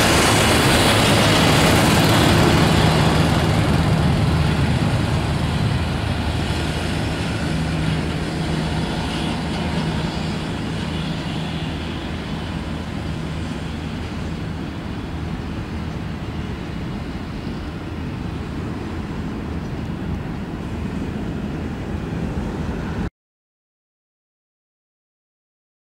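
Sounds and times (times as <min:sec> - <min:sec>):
jet engines rumbling: 0:00.0 - 0:23.1.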